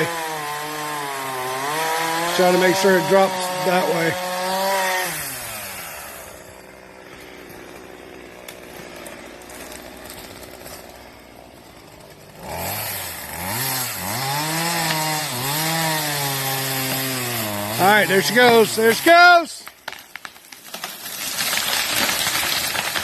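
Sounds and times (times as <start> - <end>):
chainsaw revving: 0.0 - 19.4.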